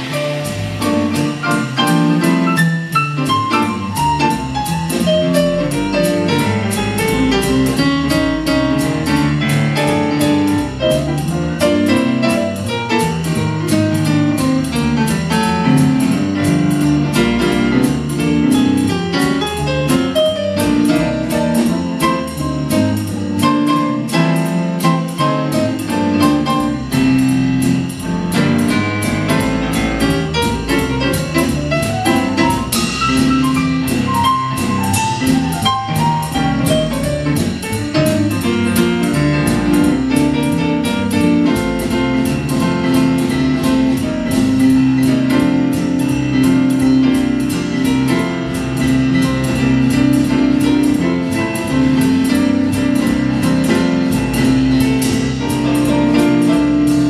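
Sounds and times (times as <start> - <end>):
bass: 0.0 - 57.0
drums with steady cymbal rhythm: 0.0 - 57.0
grand piano: 0.0 - 57.0.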